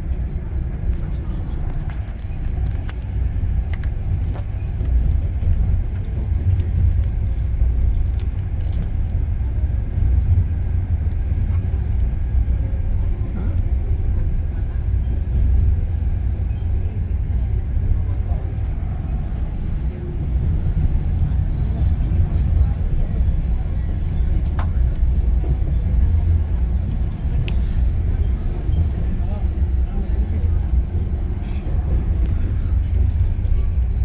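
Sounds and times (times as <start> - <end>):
train rumbling inside coach: 0.0 - 34.0.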